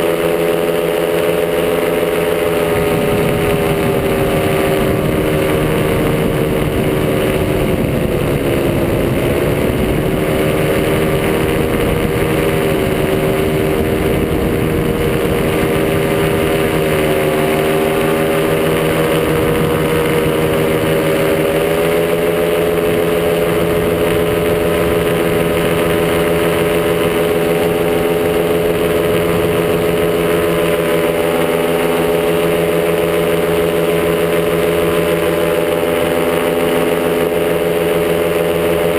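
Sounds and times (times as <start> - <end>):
paramotor engine running: 0.0 - 38.9
wind on microphone: 0.0 - 38.9.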